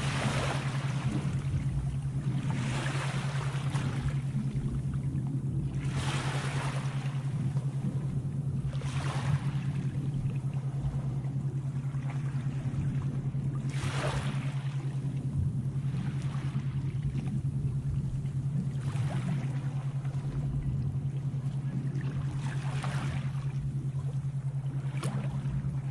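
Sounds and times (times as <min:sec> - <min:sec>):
low hum: 0:00.0 - 0:25.9
sea waves washing in: 0:00.0 - 0:25.9.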